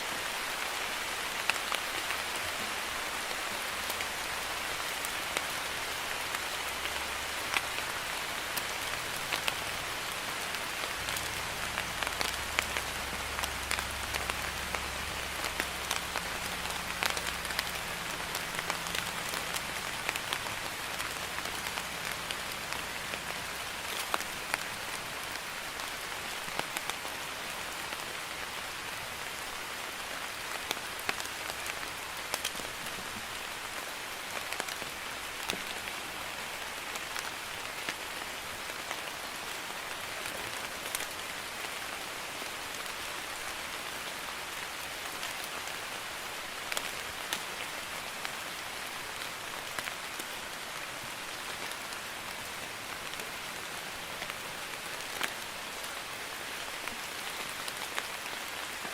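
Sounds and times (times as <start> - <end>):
light rain hissing: 0.0 - 58.9.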